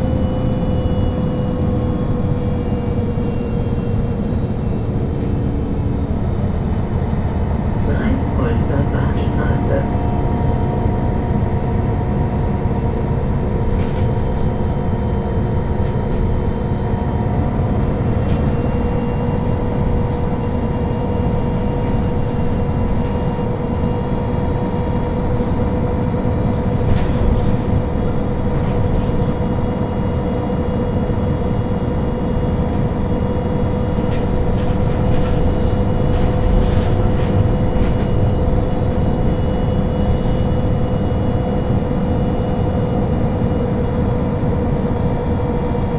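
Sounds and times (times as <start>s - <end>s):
bus engine rumble: 0.0s - 45.9s
steady whine: 0.0s - 45.9s.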